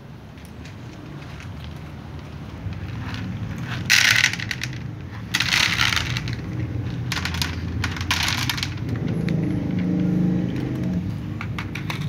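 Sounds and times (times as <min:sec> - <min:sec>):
cats crunching dry kibble: 0:00.2 - 0:11.0.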